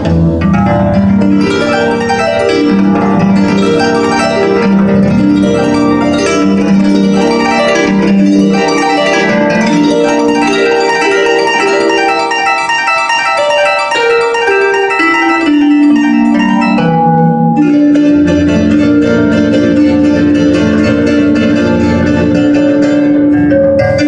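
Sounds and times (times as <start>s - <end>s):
ensemble of harps playing: 0.0s - 24.0s.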